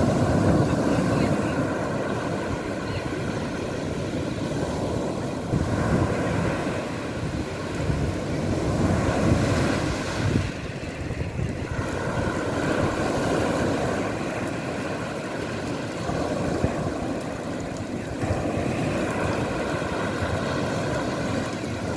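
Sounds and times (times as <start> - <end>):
sea water rushing: 0.0 - 21.9
wind buffeting microphone: 0.0 - 21.9.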